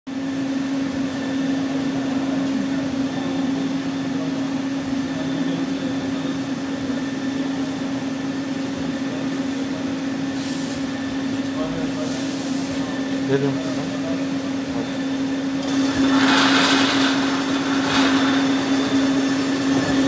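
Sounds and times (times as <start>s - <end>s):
sorting machine humming: 0.1s - 20.0s.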